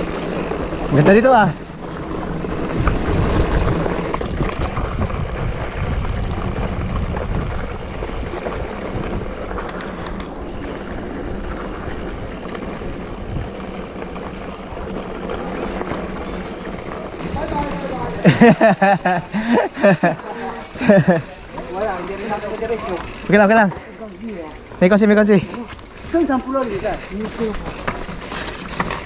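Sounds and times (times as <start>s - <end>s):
wind buffeting microphone: 0.0s - 23.4s
bike tyres rumbling on dirt: 0.0s - 29.0s.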